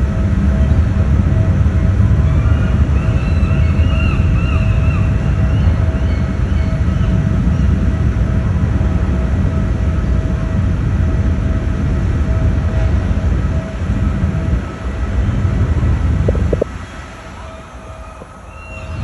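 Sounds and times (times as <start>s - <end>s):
faint steady whine: 0.0s - 19.0s.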